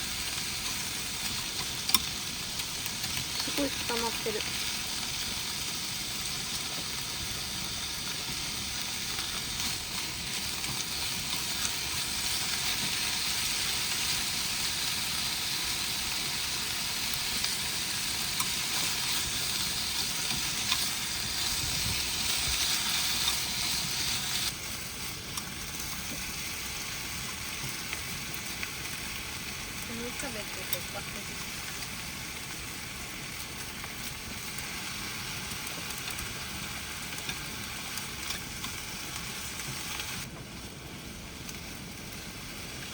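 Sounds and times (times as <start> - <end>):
noodles sizzling in a frying pan: 0.0 - 42.9.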